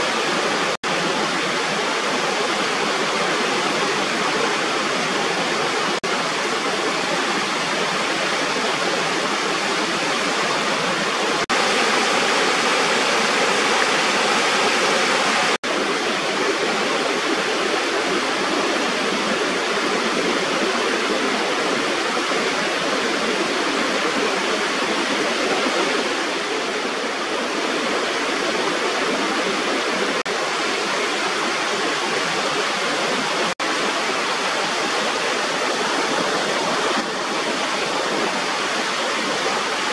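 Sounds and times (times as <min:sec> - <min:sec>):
water rushing over small waterfall: 0:00.0 - 0:39.9.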